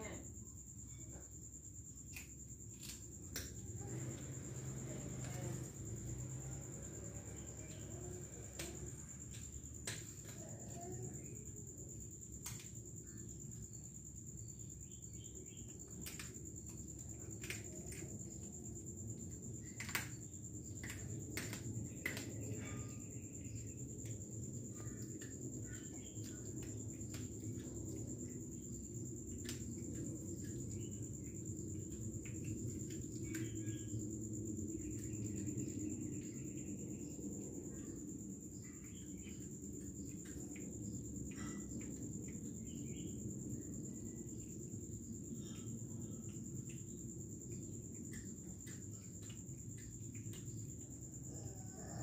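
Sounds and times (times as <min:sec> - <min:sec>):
insect trill: 0:00.0 - 0:52.0
steady low hum: 0:00.0 - 0:52.0.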